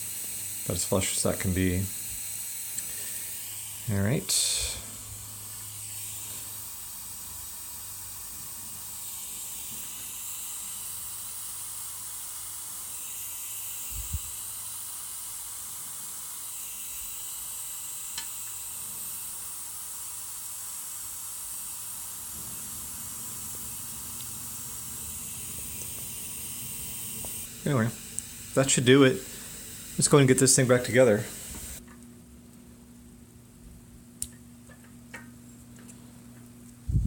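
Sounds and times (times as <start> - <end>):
high-pitched hiss: 0.0 - 31.8.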